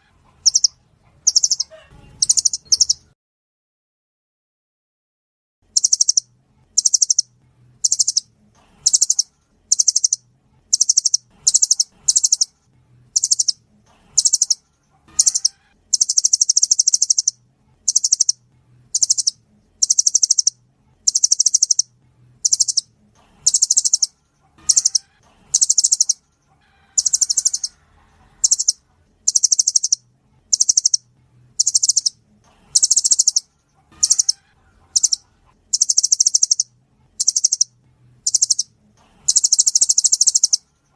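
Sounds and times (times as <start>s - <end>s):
nuthatch trilling: 0.0s - 3.1s, 5.7s - 27.8s, 28.4s - 40.7s.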